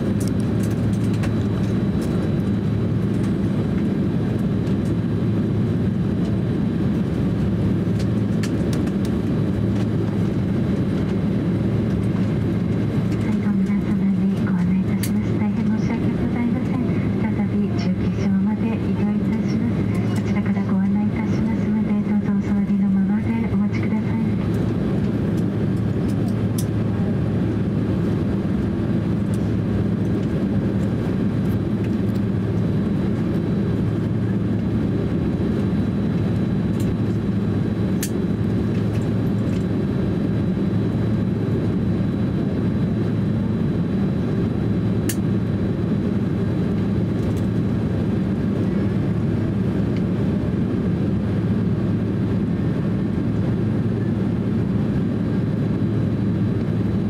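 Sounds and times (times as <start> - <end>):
jet engines idling rumble: 0.0 - 57.0.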